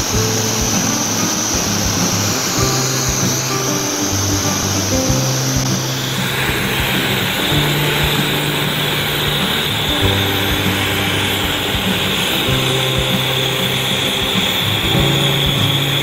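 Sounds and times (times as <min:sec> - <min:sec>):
background music with low notes: 0:00.0 - 0:16.0
gas torch flame hissing: 0:00.0 - 0:16.0.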